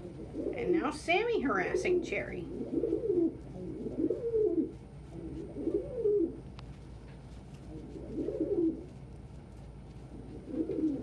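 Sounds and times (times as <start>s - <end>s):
pigeons cooing: 0.0s - 6.6s, 7.6s - 9.0s, 10.1s - 11.0s.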